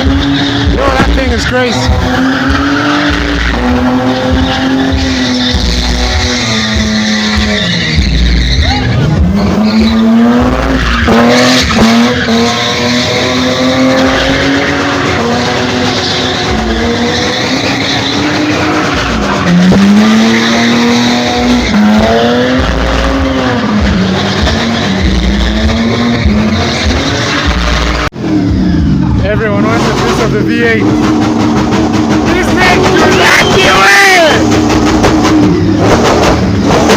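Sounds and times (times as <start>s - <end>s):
car engine revving high: 0.0s - 36.9s
tyres skidding and squealing: 0.0s - 36.9s.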